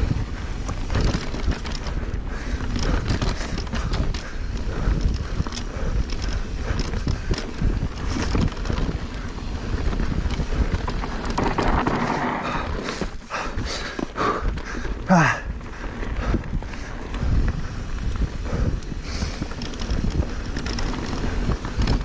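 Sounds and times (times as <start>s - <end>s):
bike clicks and rattles: 0.0s - 22.0s
tyres rumbling on dirt trail: 0.0s - 22.0s
wind on microphone: 0.0s - 22.0s.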